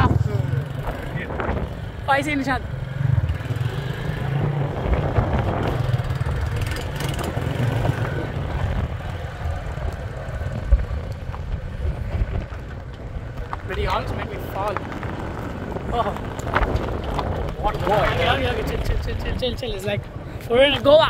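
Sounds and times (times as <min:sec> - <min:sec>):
motorbike engine rumbling: 0:00.0 - 0:20.2.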